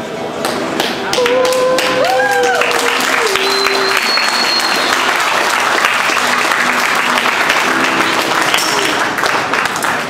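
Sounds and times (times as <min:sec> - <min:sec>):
crowd applauding: 0:00.4 - 0:10.0.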